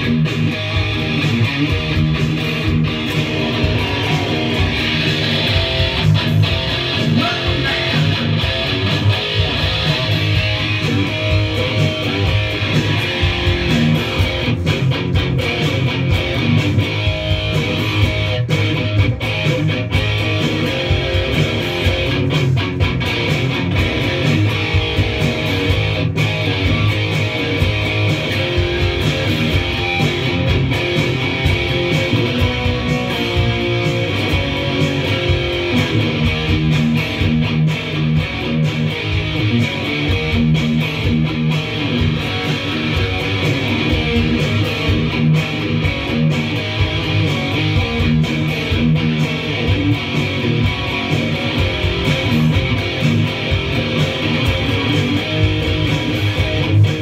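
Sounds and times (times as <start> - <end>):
heavy metal electric guitar: 0.0 - 57.0.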